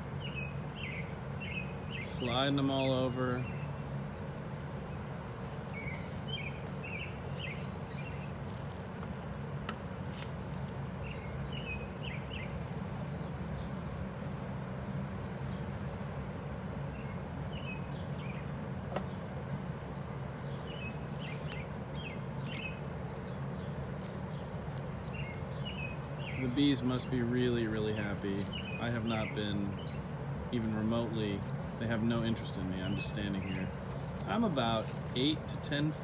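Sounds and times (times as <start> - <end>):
small birds chirping: 0.0 - 36.0
steady low hum: 0.0 - 36.0.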